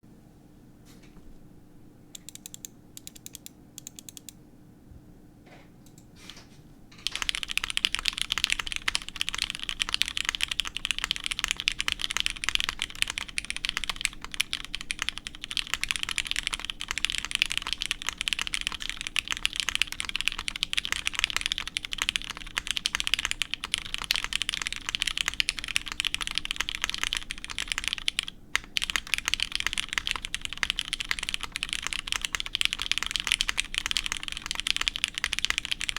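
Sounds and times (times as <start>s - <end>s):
mechanical keyboard typing: 2.2s - 4.3s, 7.0s - 35.9s.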